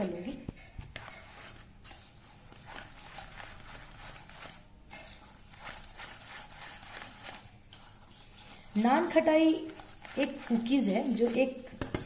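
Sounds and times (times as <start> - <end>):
whisk scraping steel bowl: 0.8 - 12.0.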